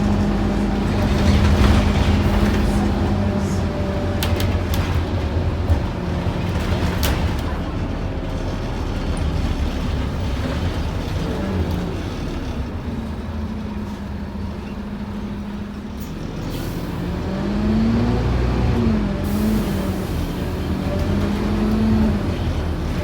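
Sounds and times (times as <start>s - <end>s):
bus diesel engine running: 0.0s - 23.0s
road noise: 0.0s - 23.0s.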